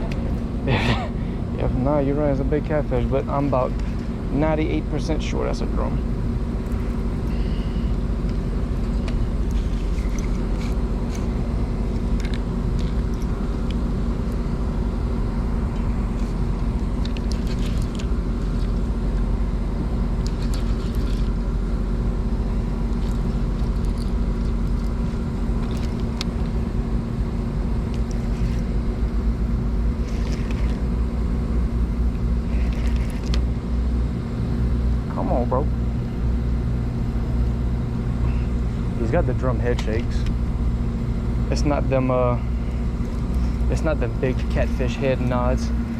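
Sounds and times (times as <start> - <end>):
low engine hum: 0.0 - 45.9.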